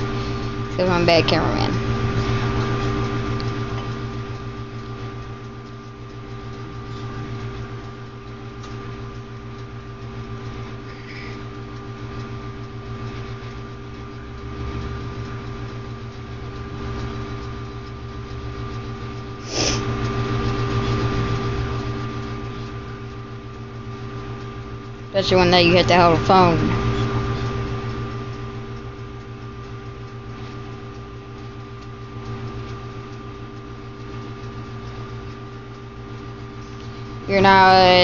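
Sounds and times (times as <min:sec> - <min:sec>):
toaster oven humming: 0:00.0 - 0:38.0.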